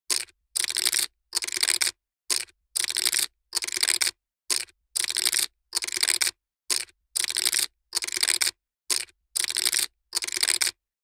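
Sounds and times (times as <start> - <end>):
poker chips clicking while shuffled: 0.1 - 10.8.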